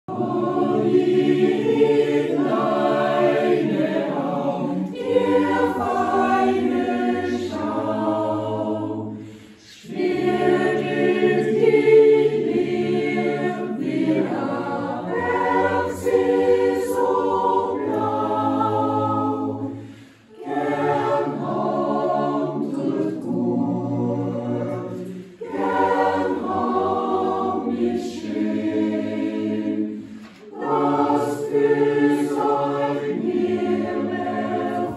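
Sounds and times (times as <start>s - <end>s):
mixed choir singing a cappella: 0.0s - 34.9s.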